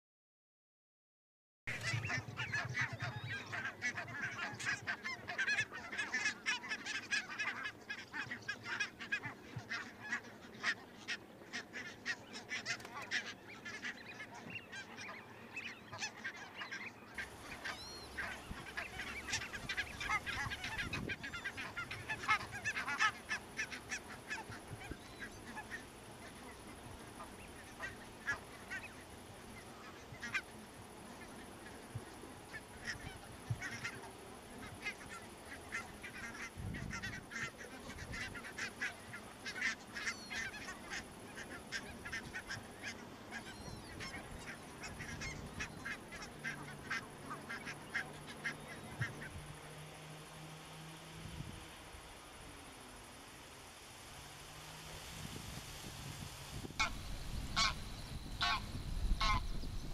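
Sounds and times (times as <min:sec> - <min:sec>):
geese honking and cackling: 0:01.7 - 0:53.2, 0:56.7 - 0:59.9.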